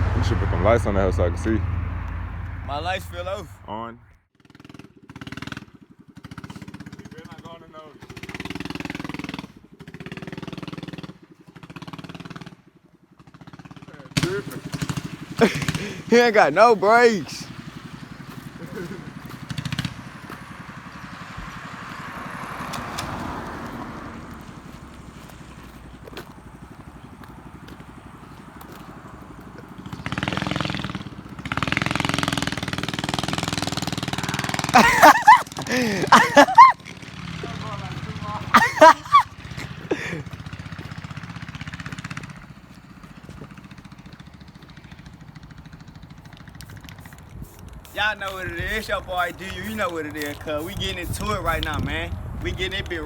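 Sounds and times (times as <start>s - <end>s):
small engine putter passing: 4.4s - 51.9s.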